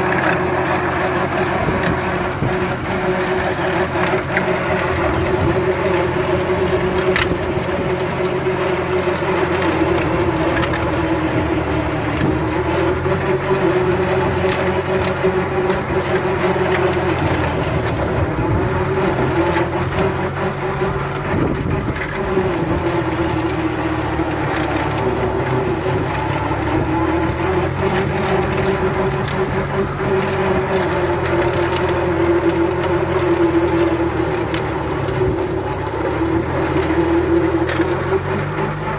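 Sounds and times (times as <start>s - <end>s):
rotavator churning soil: 0.0s - 38.9s
tractor diesel engine under load: 0.0s - 38.9s.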